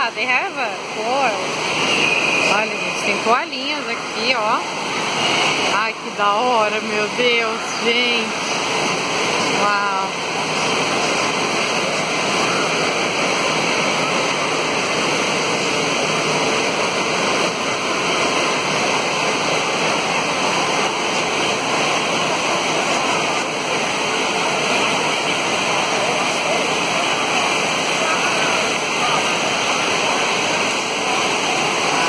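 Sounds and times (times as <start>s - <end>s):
water spraying and splashing: 0.1s - 32.0s.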